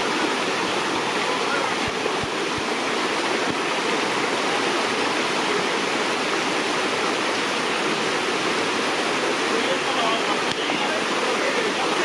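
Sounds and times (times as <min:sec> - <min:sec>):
rushing flowing water: 0:00.0 - 0:12.0.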